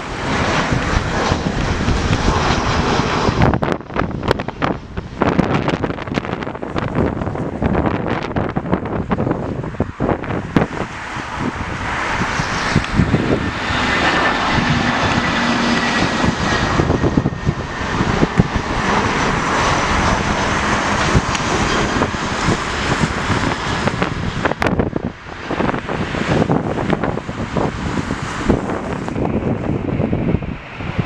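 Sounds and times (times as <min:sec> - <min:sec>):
jet engines roaring: 0:00.0 - 0:31.0
wind buffeting microphone: 0:00.0 - 0:31.0.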